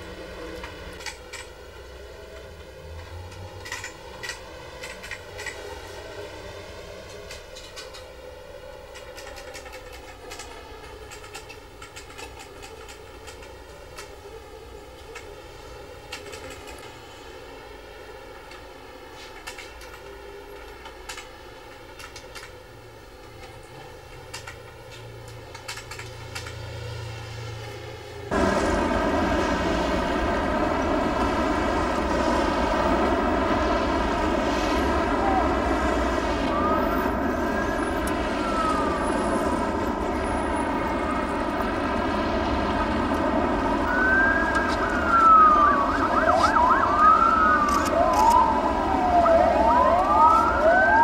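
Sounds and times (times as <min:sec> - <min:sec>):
loud engine drone: 0:00.0 - 0:51.0
sirens wailing: 0:00.0 - 0:51.0.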